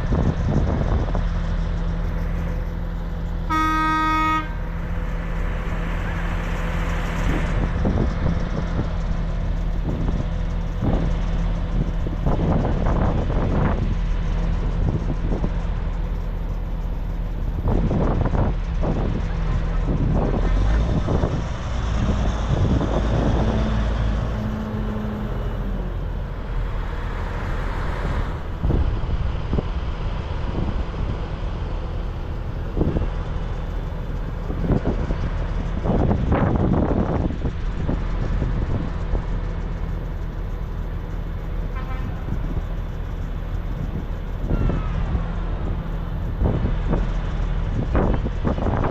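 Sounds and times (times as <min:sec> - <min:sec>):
tractor engines droning: 0:00.0 - 0:48.9.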